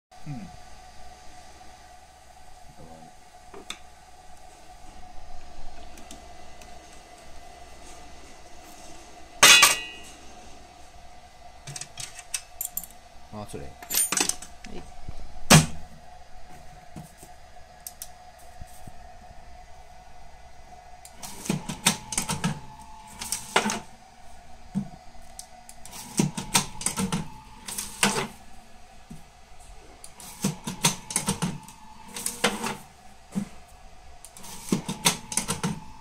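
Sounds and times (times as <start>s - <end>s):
machine hum: 0.2s - 36.0s.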